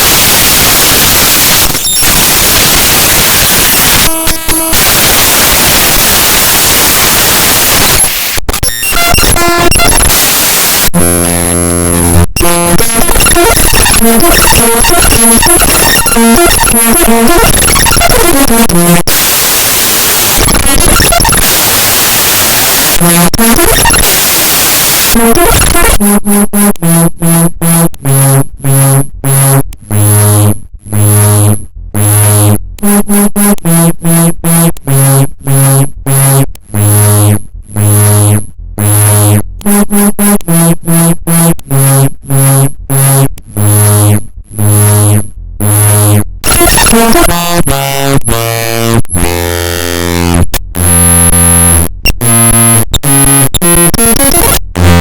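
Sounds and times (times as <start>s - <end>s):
choppy stutter of buzzing notes: 0.0s - 55.0s
harsh digital noise and buzzing: 0.0s - 55.0s.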